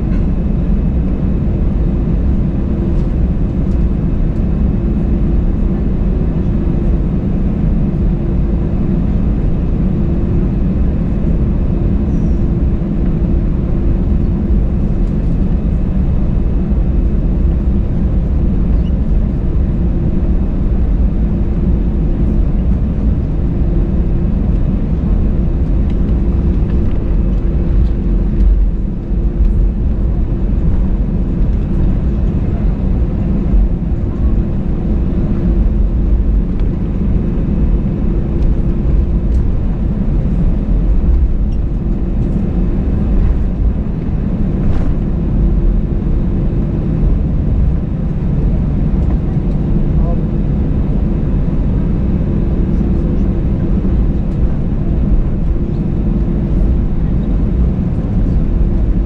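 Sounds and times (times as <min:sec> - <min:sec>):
aircraft cabin engine rumble: 0:00.0 - 0:59.0.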